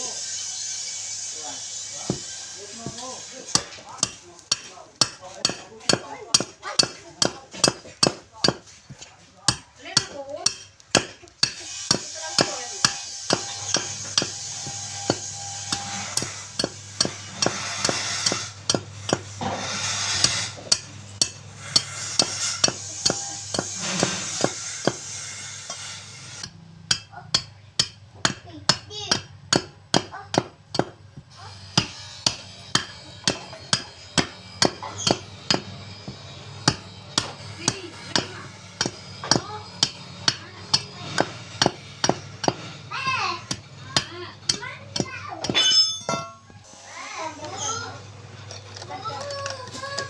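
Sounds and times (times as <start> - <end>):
sharp hammering strikes: 0.6 - 46.6.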